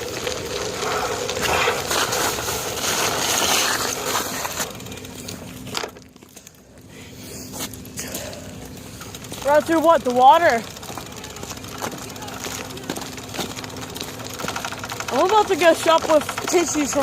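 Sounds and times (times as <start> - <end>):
bicycle tyres crunching over snow: 0.0 - 17.0.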